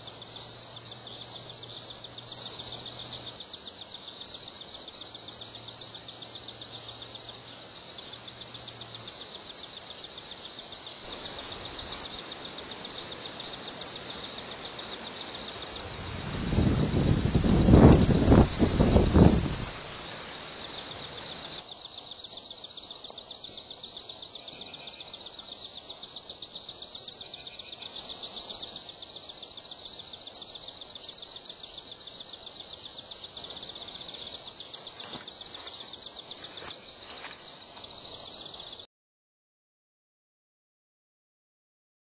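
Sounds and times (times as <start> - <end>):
cicadas calling: 0.0 - 38.8.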